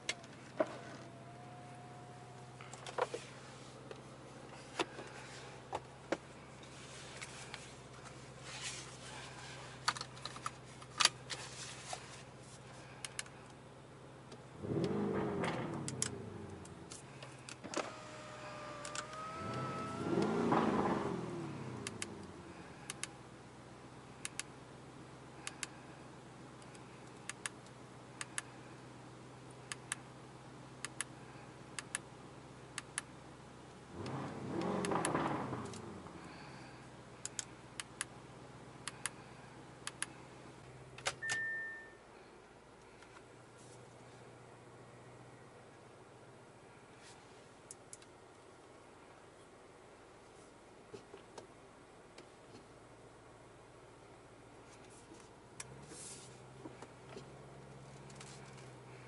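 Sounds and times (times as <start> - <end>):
car engine from inside cabin: 0.0 - 47.8, 52.6 - 59.0.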